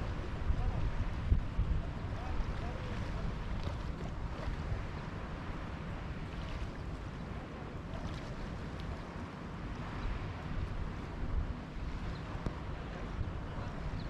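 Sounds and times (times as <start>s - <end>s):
wind buffeting microphone: 0.0s - 7.2s, 8.2s - 14.0s
sea surf: 0.0s - 14.0s.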